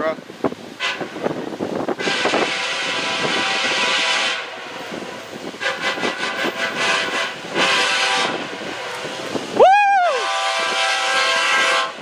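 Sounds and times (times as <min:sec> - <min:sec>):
locomotive air horn: 0:00.8 - 0:01.3, 0:02.0 - 0:09.3, 0:10.1 - 0:12.0.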